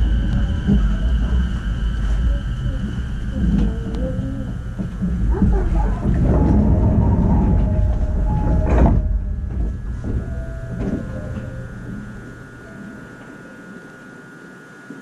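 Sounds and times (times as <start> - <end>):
train wheels rumbling on rails: 0.0 - 13.5
electric motor tones: 0.0 - 14.5.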